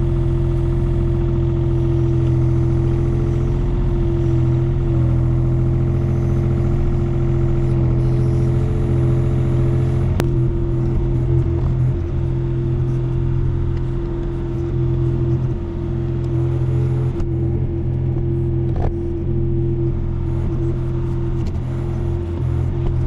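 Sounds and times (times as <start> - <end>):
excavator diesel engine running: 0.0 - 23.0
steady whine: 0.0 - 23.0.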